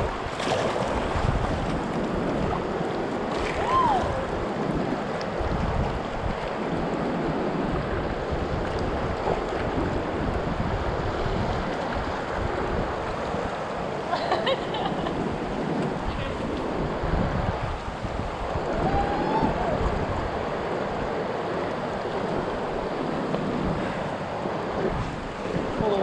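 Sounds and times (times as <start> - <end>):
river water rushing: 0.0 - 26.0
wind buffeting microphone: 0.0 - 26.0.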